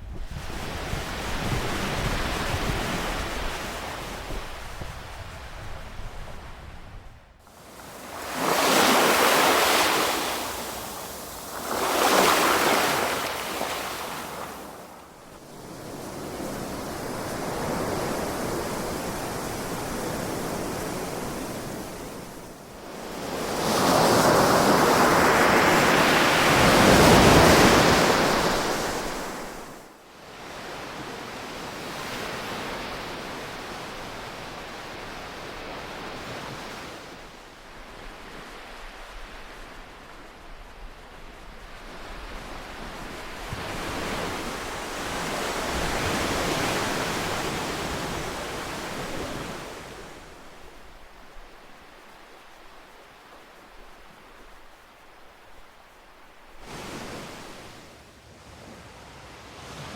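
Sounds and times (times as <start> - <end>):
ocean waves breaking on shore: 7.4 - 59.9.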